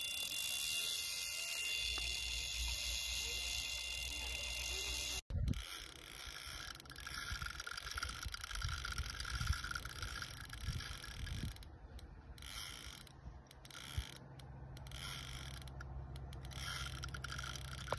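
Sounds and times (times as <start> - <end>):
fishing reel drag clicking: 0.0 - 11.7, 12.4 - 17.9.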